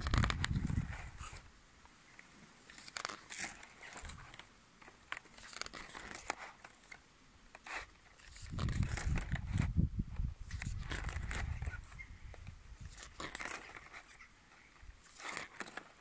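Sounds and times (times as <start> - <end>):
paper pages rustling: 0.0 - 1.5, 2.2 - 9.8, 10.4 - 16.0.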